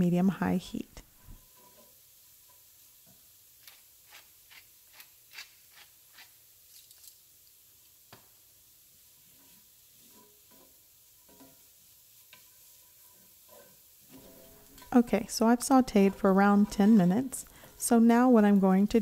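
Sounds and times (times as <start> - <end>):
wooden spoon scraping a skillet: 1.2 - 6.5, 8.9 - 19.0.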